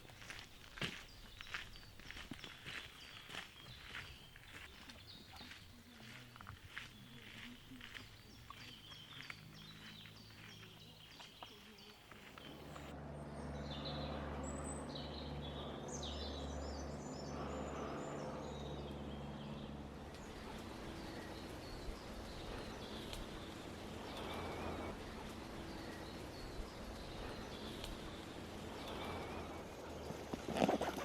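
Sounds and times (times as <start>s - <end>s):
small birds chirping and warbling: 0.0s - 31.0s.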